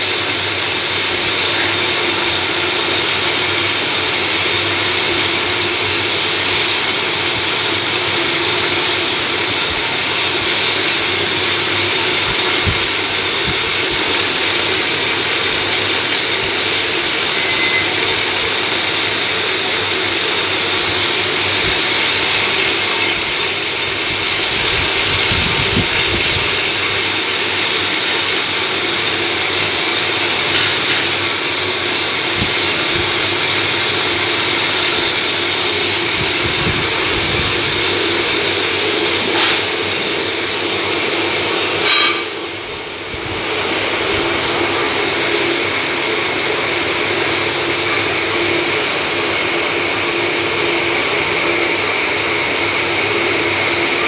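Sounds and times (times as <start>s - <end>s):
metal lathe whirring: 0.0s - 54.0s.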